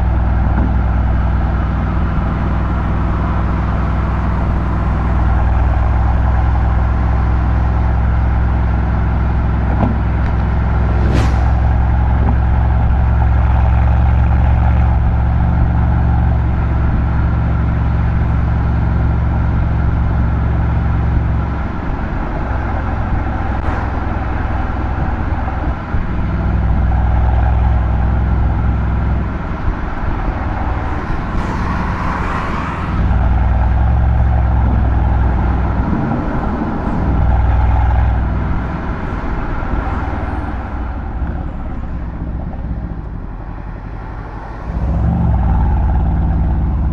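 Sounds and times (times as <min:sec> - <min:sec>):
car exhaust droning: 0:00.0 - 0:46.9.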